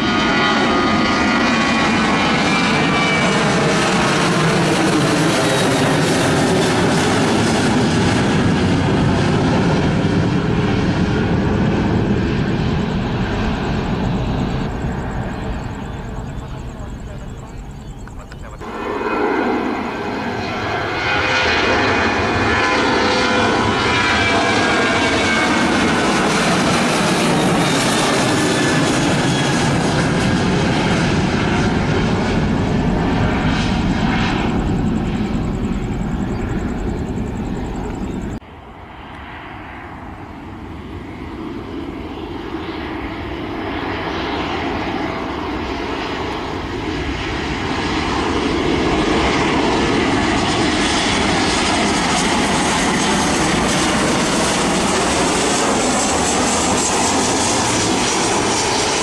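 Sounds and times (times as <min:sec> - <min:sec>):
jet engine noise: 0:00.0 - 0:59.0.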